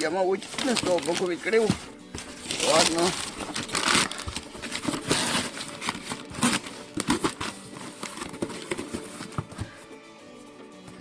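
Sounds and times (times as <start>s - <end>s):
paper crinkling: 0.0s - 9.6s.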